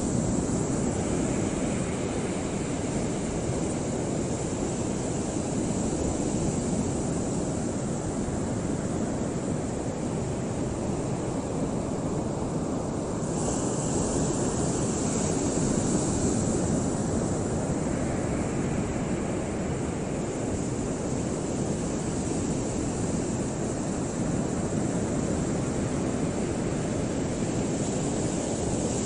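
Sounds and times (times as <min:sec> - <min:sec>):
waves on choppy water: 0:00.0 - 0:29.0
wind: 0:00.0 - 0:29.0.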